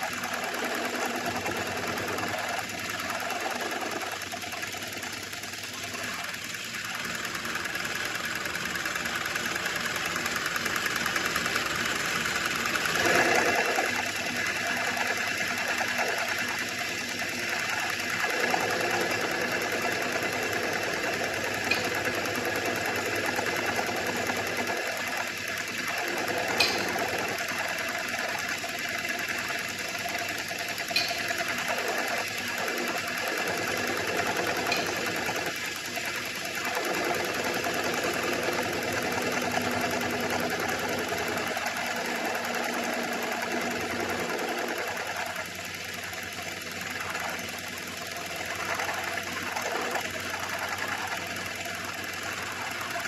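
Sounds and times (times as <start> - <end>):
metal lathe humming: 0.0 - 53.0.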